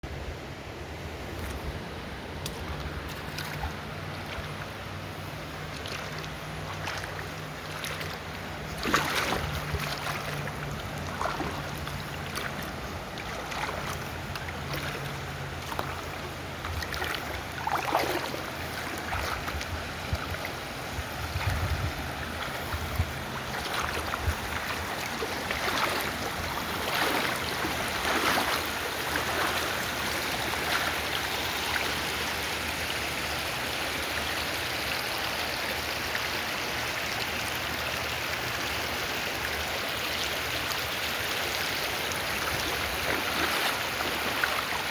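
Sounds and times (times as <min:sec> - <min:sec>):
river water rushing: 0:00.1 - 0:44.9.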